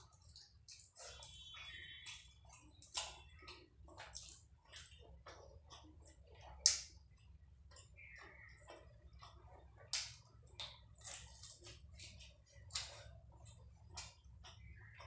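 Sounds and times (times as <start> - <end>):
fingers squishing wet rice: 0.0 - 15.0
wet chewing and mouth clicks: 0.0 - 15.0.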